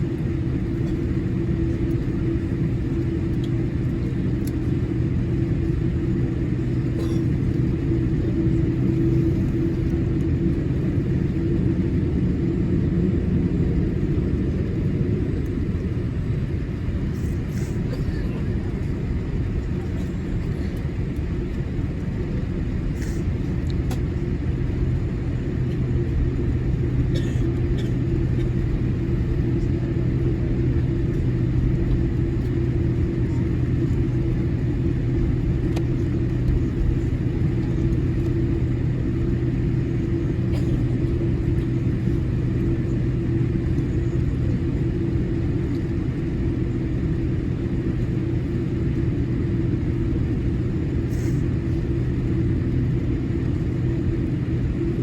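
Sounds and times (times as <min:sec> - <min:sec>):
aircraft cabin rumble and hum: 0:00.0 - 0:55.0.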